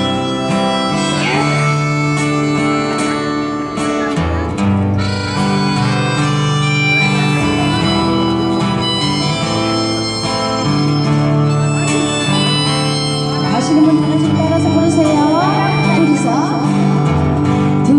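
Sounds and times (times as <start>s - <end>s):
acoustic guitar accompaniment: 0.0s - 17.9s
held melody notes: 0.0s - 17.9s.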